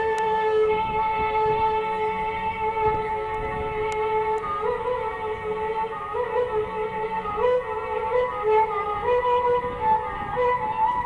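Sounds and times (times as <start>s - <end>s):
sliding instrumental melody: 0.0s - 11.0s.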